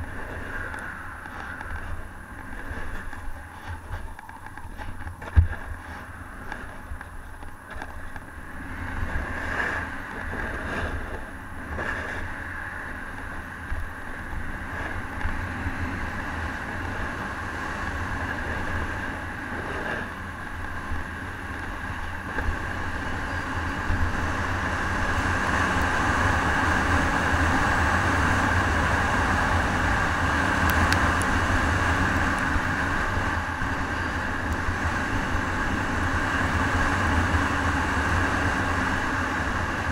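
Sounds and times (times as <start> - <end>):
snowboard scraping over snow: 0.0 - 39.9
wind rumbling on microphone: 0.0 - 39.9.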